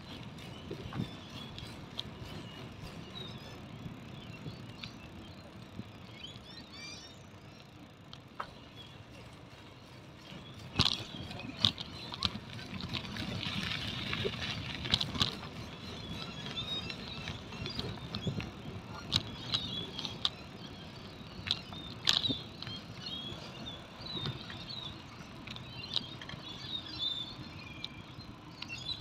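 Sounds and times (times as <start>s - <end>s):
bike rattling over bumps: 0.0s - 27.5s
bicycle tyres rumbling: 0.0s - 29.0s
birds chirping: 0.0s - 29.0s.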